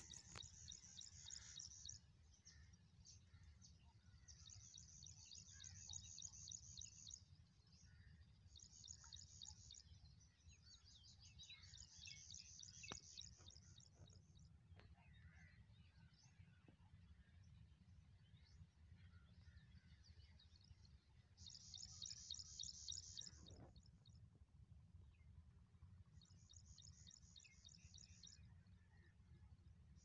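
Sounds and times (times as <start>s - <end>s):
small birds twittering: 0.0s - 24.2s, 26.2s - 30.0s
low steady rumble: 0.0s - 30.0s.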